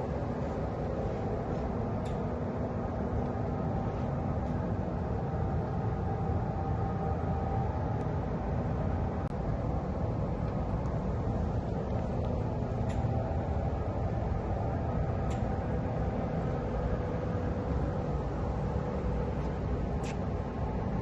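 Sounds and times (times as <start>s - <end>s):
faint hum: 0.0s - 21.0s
low mechanical rumble: 0.0s - 21.0s.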